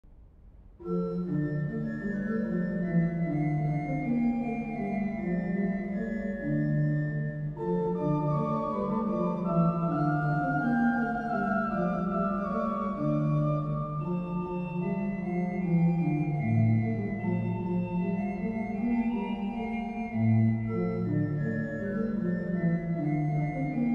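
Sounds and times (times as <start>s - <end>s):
organ playing slow chords: 0.8s - 23.9s.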